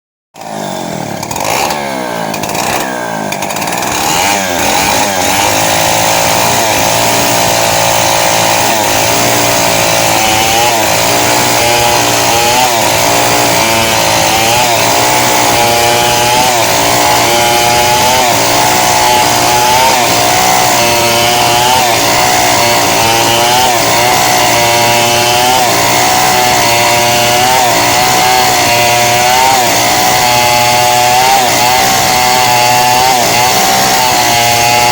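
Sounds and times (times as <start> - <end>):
chainsaw revving: 0.4 - 34.9.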